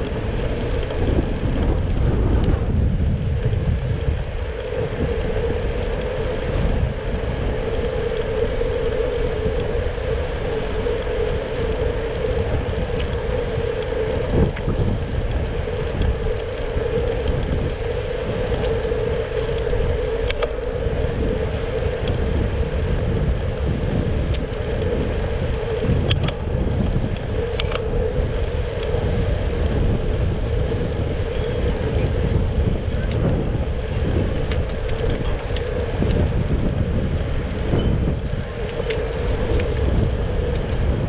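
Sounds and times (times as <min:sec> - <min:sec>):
bicycle tyres rumbling on road: 0:00.0 - 0:41.0
constant hum: 0:00.0 - 0:41.0.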